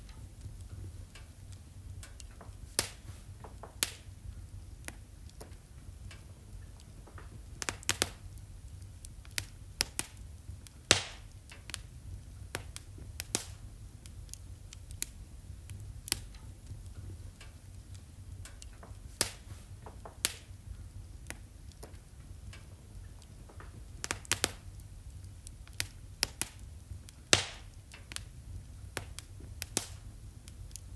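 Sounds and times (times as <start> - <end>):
fire popping: 0.0 - 30.9
low steady rumble: 0.0 - 30.9
wood fire crackling: 0.0 - 30.9.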